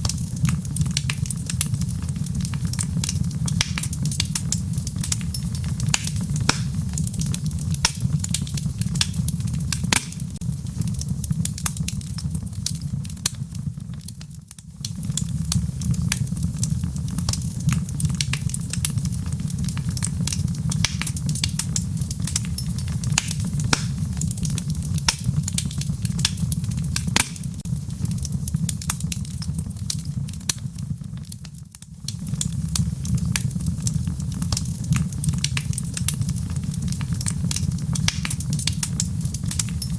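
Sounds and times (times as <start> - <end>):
fire crackles and pops: 0.0 - 39.9
fire rumbling in a fireplace: 0.0 - 39.9.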